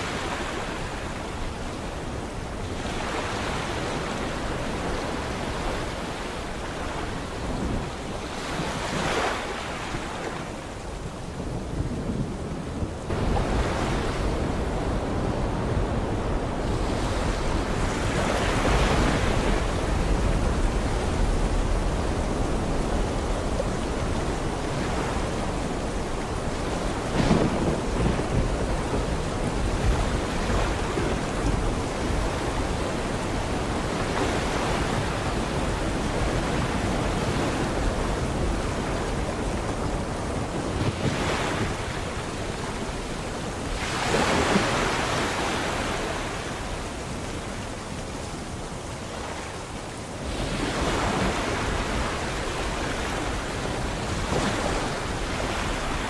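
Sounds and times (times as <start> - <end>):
low rumble of surf: 0.0 - 56.0
sea waves washing in: 0.0 - 56.0.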